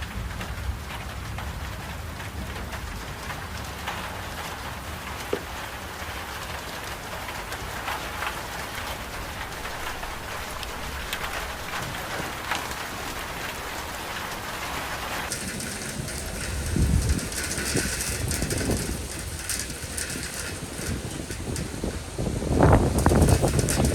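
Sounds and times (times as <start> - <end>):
raindrops clicking on surfaces: 0.0 - 23.9
steady rain: 0.0 - 23.9.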